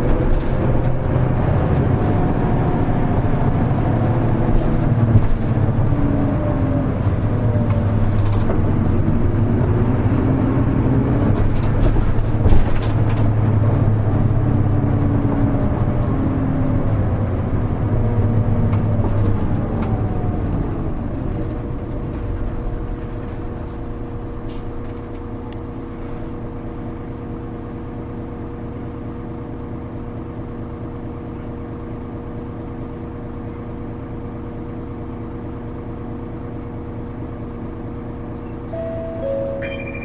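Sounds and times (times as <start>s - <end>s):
bus engine humming: 0.0s - 40.0s.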